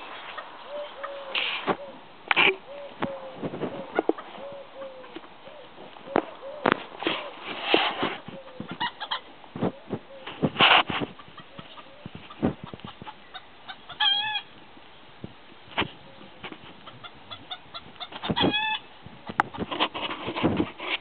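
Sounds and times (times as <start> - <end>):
chickens calling: 0.0 - 15.1, 15.8 - 21.0.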